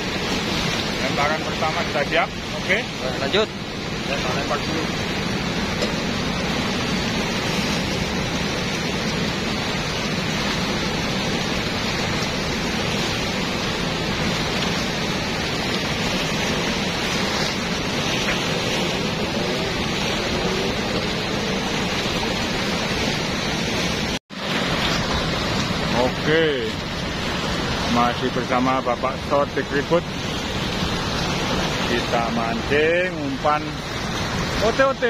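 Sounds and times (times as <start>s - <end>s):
water rushing through weir: 0.0s - 35.0s.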